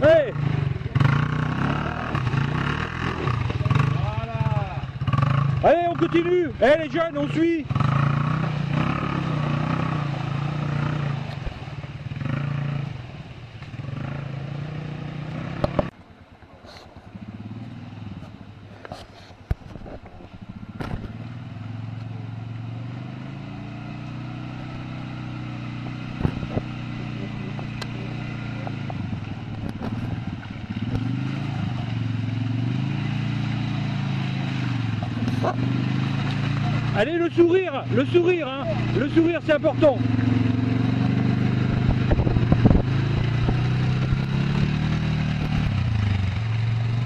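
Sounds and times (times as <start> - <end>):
quad bike engines revving: 0.0 - 47.0.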